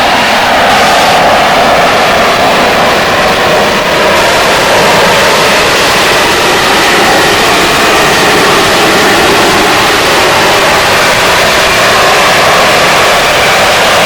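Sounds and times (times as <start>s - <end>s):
jet engine roaring with whine: 0.0s - 14.0s.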